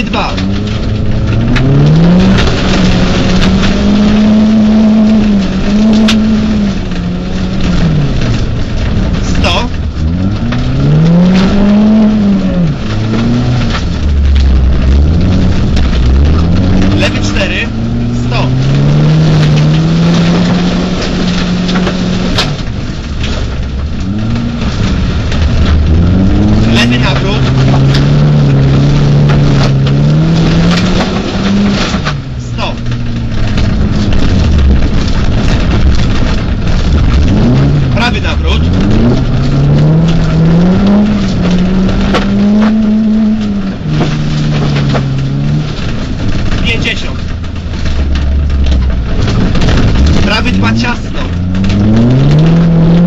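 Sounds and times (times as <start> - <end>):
car engine revving: 0.0 - 53.0
gravel knocking against underbody: 0.0 - 53.0.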